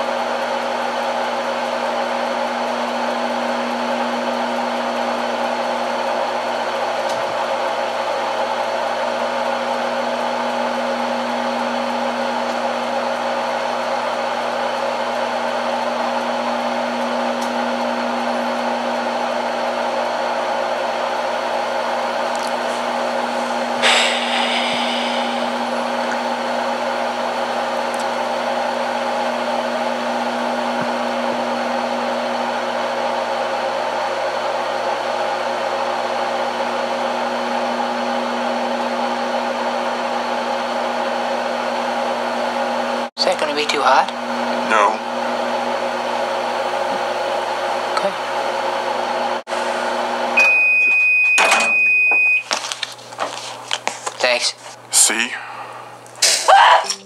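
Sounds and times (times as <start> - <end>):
microwave oven humming: 0.0 - 57.0.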